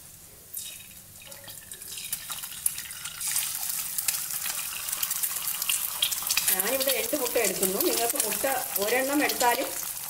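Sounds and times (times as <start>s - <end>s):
egg sizzling in oil: 0.0s - 10.0s.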